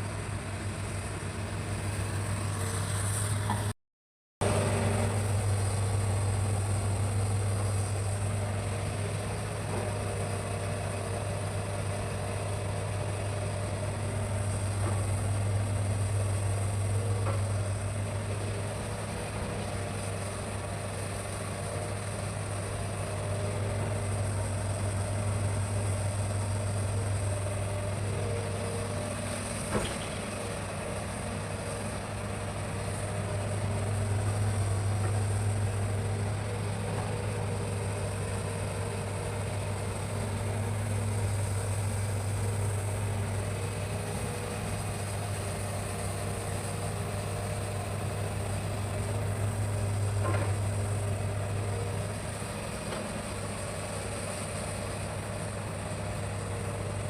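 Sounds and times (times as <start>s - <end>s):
diesel excavator engine droning: 0.0s - 3.8s, 4.4s - 57.0s.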